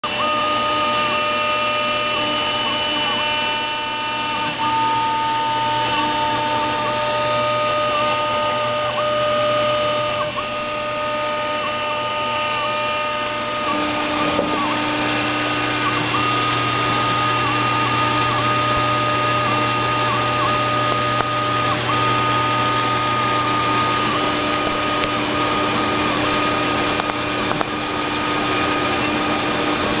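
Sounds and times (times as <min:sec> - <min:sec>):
router spindle high whine: 0:00.0 - 0:30.0.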